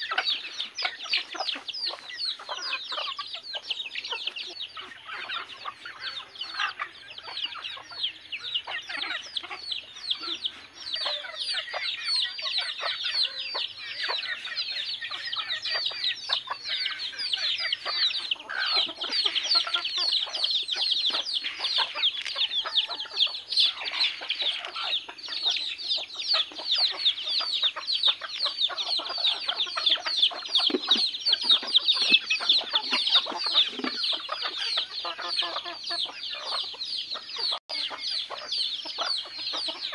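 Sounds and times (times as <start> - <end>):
chicks peeping: 0.0 - 39.9
hens clucking: 0.0 - 39.9.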